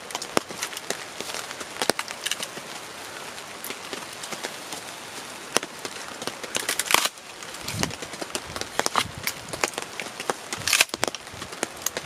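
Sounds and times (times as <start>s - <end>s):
wood cracking and tearing: 0.0s - 12.0s.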